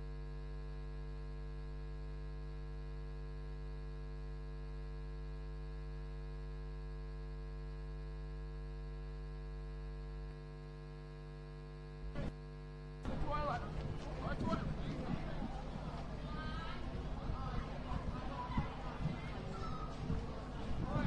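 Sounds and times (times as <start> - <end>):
electrical mains hum: 0.1 - 21.0.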